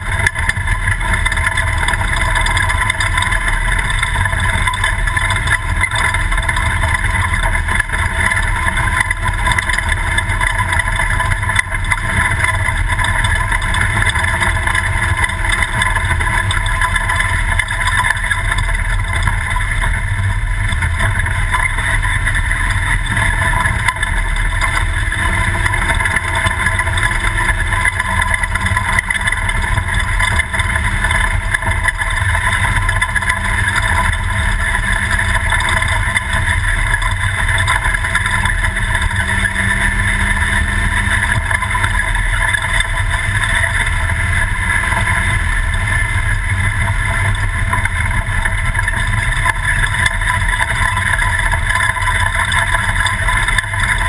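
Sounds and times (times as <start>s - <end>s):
race truck driving off-road: 0.0s - 54.0s.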